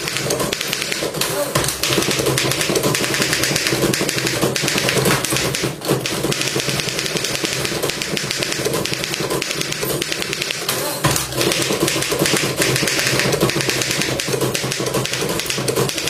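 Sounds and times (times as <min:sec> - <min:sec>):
typewriter keys clattering: 0:00.0 - 0:16.0.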